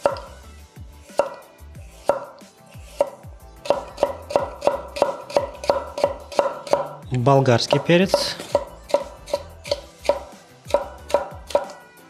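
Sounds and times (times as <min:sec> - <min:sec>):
knife chopping carrot on board: 0:00.0 - 0:00.4, 0:01.0 - 0:11.8.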